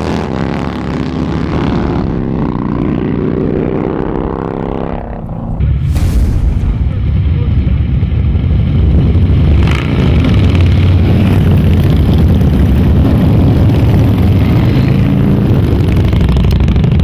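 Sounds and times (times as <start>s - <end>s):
motorcycle engines rumbling: 0.0s - 5.9s, 6.6s - 17.0s.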